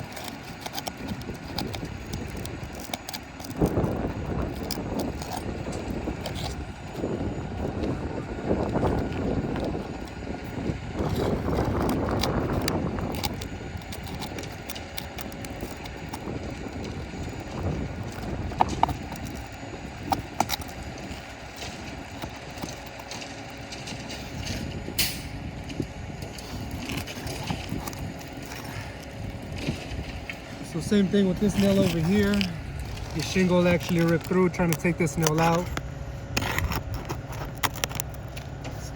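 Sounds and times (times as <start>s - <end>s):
wind noise on microphone: 0.0s - 23.1s, 23.7s - 38.9s.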